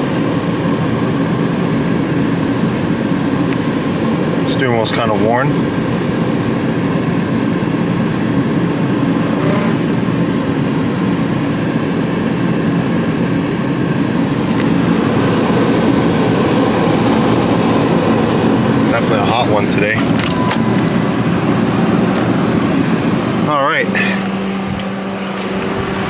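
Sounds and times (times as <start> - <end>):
car engine idling: 0.0 - 26.0
climate-control fan blowing: 0.0 - 26.0.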